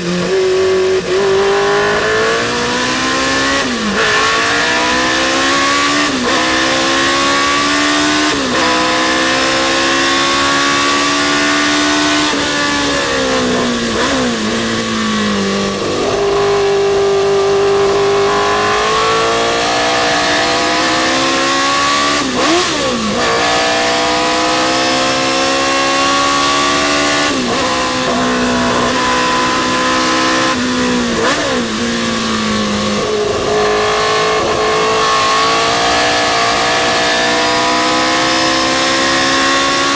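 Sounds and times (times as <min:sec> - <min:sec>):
racing car engine shifting gears: 0:00.0 - 0:39.9.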